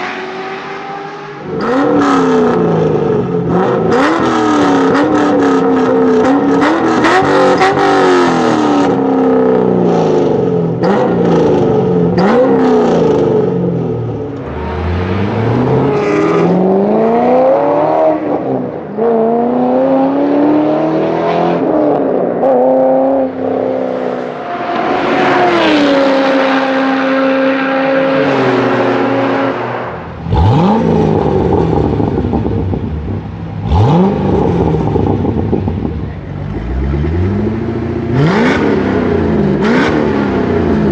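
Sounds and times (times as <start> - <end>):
car engine revving and accelerating: 0.0 - 40.9.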